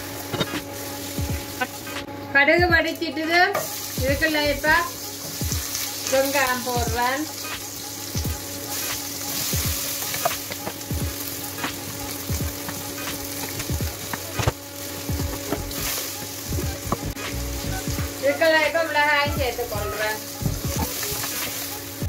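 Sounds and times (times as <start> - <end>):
onions sizzling in hot oil: 0.0 - 2.0, 3.6 - 22.0.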